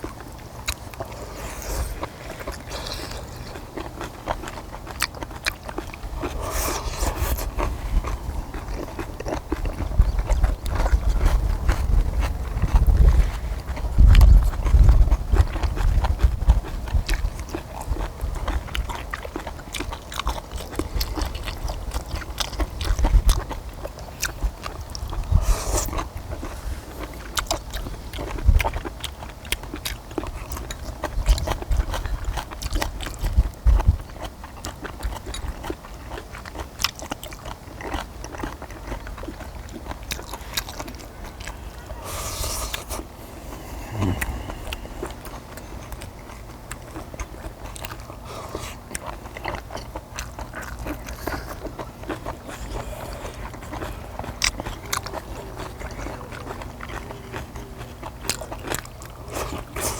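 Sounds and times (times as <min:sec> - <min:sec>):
close-up chewing: 0:00.0 - 0:59.9.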